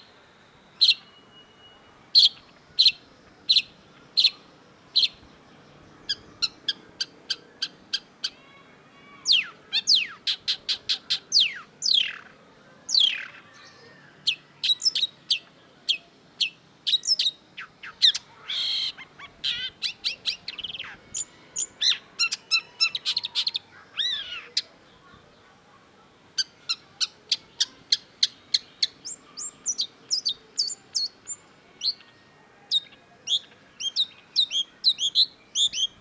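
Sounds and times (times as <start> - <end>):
bird singing fast varied song: 0.0 - 25.6, 26.4 - 36.0.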